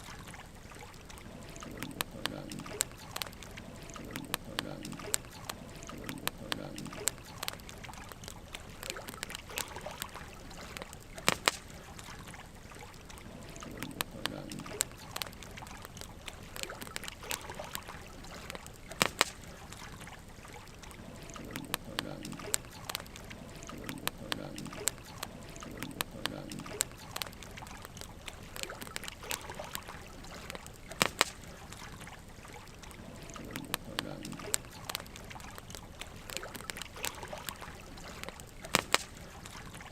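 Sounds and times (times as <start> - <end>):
wood fire crackling and popping: 1.1 - 39.9.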